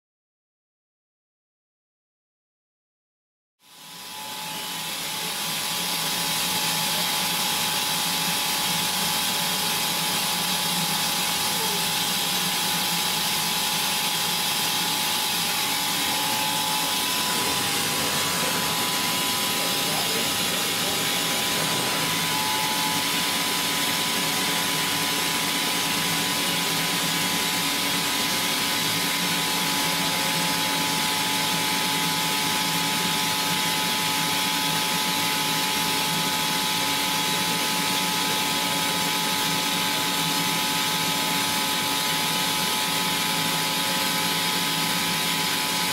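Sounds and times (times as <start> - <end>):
grinding machine hissing and whining: 3.6 - 45.9.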